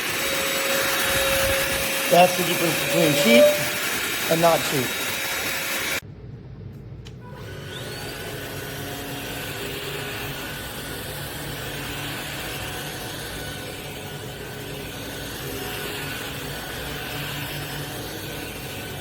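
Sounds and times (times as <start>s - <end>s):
vacuum cleaner running: 0.0s - 6.0s, 7.4s - 19.0s
vacuum motor whine spinning up: 0.0s - 6.0s, 7.4s - 19.0s.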